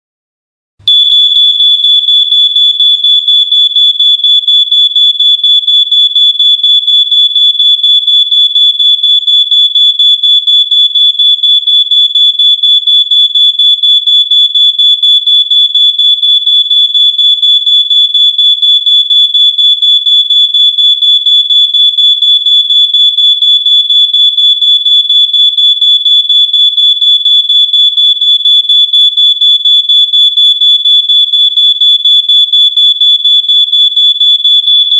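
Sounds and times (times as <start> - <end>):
smoke alarm beeping: 0.8 - 34.9.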